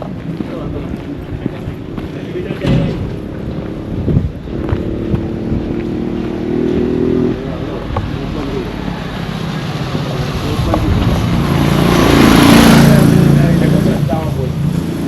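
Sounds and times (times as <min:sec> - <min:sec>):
vehicle approaching: 0:00.0 - 0:15.0
vehicle engine humming: 0:00.0 - 0:15.0.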